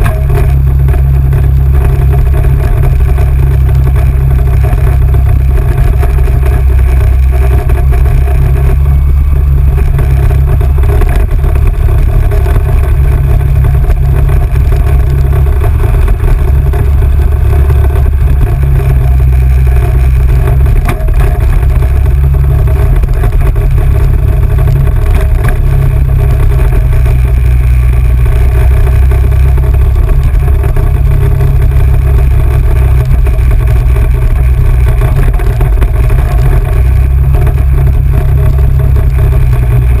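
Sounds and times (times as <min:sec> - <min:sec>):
atv engine running: 0:00.0 - 0:40.0.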